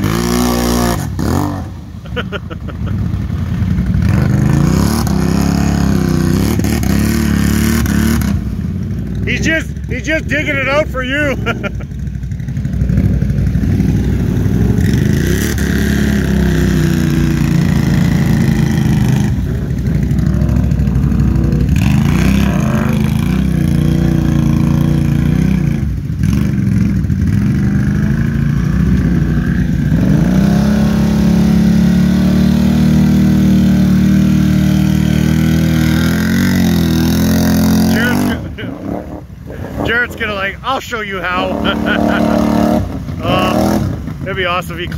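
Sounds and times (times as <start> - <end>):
atv engines revving: 0.0 - 44.9
tires spinning in mud: 0.0 - 44.9.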